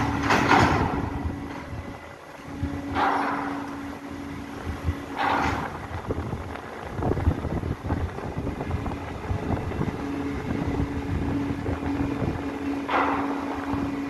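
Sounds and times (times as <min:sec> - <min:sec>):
port crane machinery running: 0:00.0 - 0:14.0
steady hum: 0:00.0 - 0:14.0
wind rumbling on microphone: 0:00.0 - 0:14.0.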